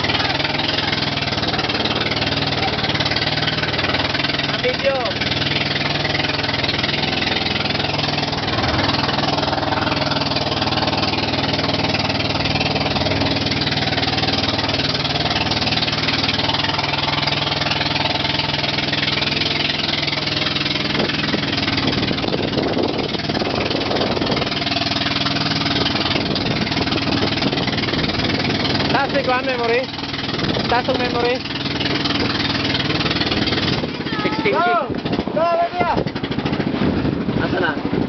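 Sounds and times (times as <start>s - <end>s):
boat engine running: 0.0s - 38.0s
water splashing: 0.0s - 38.0s.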